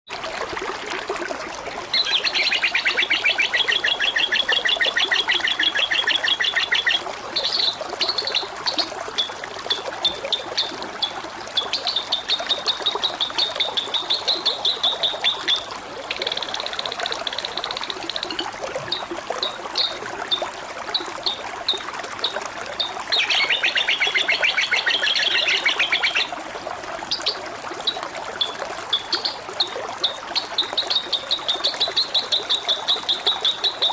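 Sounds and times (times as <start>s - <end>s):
water trickling: 0.1s - 33.9s.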